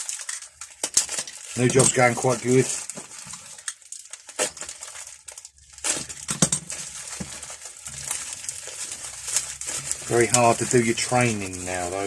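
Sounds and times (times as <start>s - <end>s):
packaging crumpling and crinkling: 0.0s - 12.0s.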